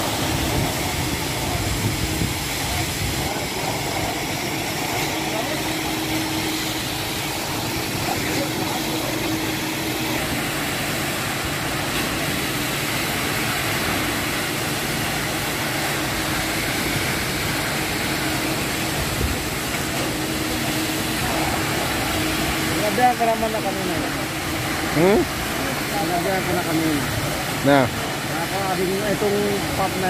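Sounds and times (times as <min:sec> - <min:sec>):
diesel engine and pump droning: 0:00.0 - 0:30.0.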